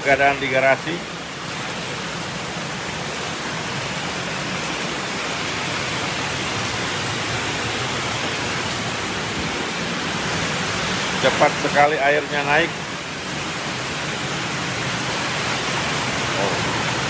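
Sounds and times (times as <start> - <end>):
heavy rain pouring: 0.0 - 17.0
running water: 0.0 - 17.0.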